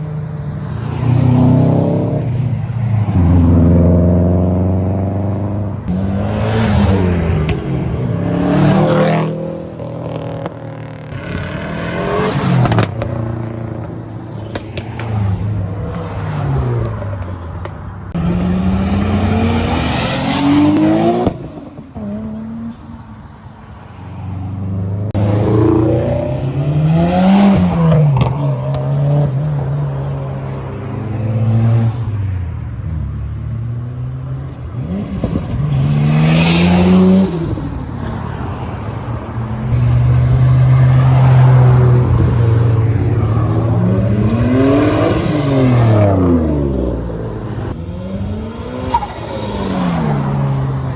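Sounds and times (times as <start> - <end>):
cars accelerating past revving: 0.5 - 17.2, 18.1 - 23.0, 23.8 - 32.5, 33.3 - 50.9.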